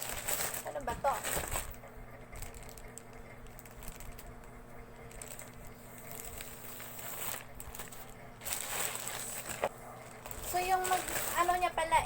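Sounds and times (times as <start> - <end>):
low steady hum: 0.0 - 12.0
plastic parcel rustling: 0.0 - 12.0.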